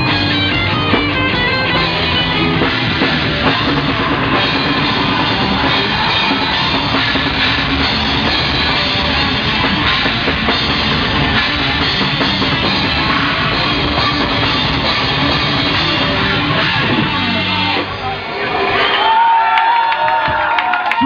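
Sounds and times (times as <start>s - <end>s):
drums and cymbals hit hard: 0.0s - 18.9s
rock band playing live: 0.0s - 18.9s.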